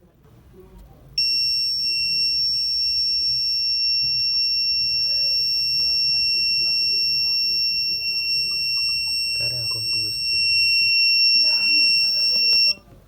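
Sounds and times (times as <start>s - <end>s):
smoke alarm buzzer tone: 1.2s - 12.8s.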